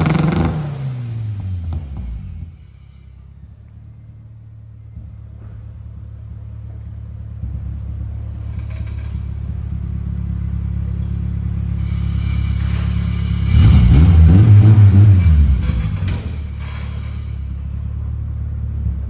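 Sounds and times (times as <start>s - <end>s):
engine exhaust rumble: 0.0s - 19.0s.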